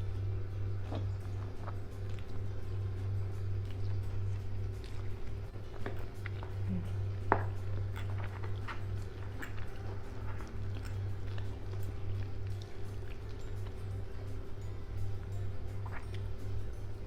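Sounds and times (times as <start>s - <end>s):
low hum: 0.0s - 17.0s
chewing and biting: 0.5s - 17.0s.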